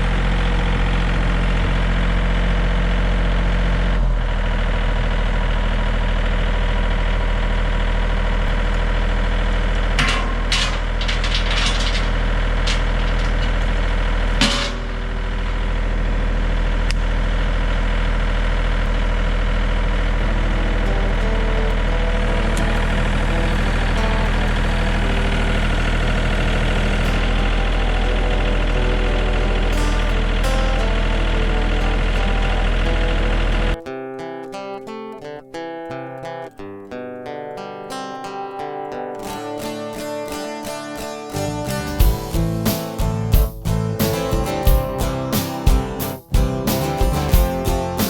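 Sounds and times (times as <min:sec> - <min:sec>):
chainsaw engine idling: 0:00.0 - 0:33.8, 0:41.4 - 0:48.0.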